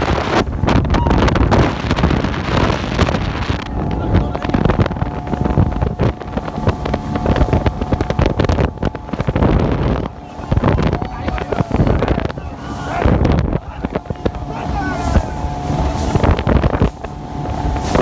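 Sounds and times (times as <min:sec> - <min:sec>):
boat engine drone: 0:00.0 - 0:18.0
hull thumping over waves: 0:00.0 - 0:18.0
wind buffeting microphone: 0:00.0 - 0:18.0.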